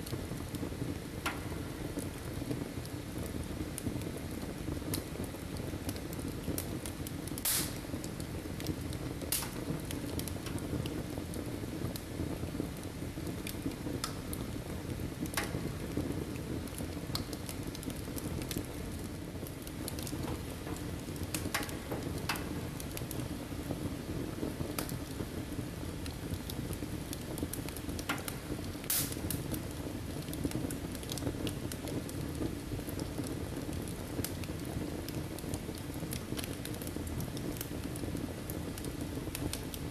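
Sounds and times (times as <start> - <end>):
fire crackling and popping: 0.0 - 39.9
fire roaring in fireplace: 0.0 - 39.9.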